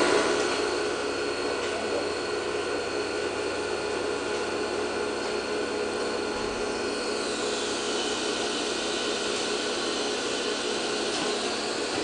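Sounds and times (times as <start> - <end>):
machinery whirring hum: 0.0 - 12.0.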